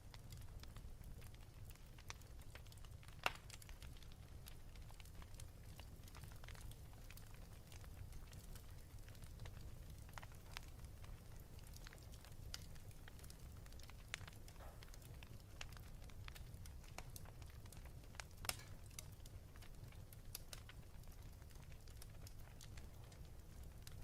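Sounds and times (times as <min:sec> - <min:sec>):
wood fire crackling: 0:00.0 - 0:24.0
sharp pops of fire: 0:00.2 - 0:24.0.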